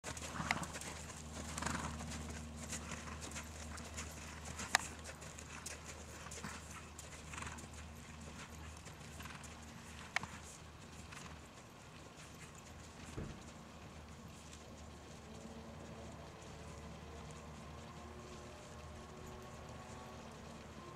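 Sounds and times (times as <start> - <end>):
horse hoofbeats on sand: 0.0 - 20.9.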